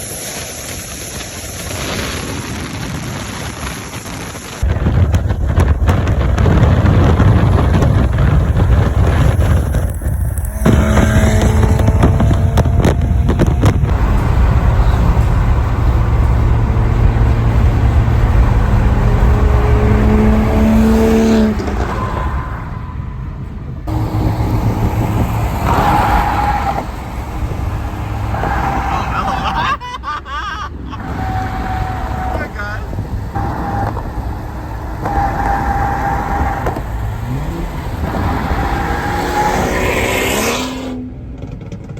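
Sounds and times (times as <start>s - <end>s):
car engine and exhaust: 0.0s - 41.9s.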